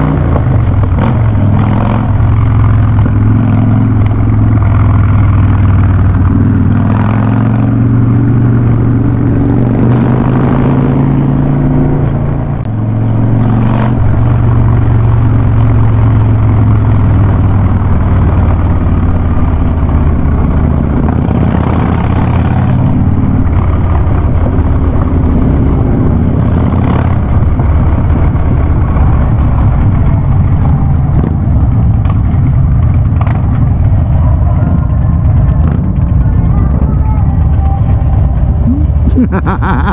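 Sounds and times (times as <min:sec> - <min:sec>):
motorcycle engine revving deep: 0:00.0 - 0:39.9.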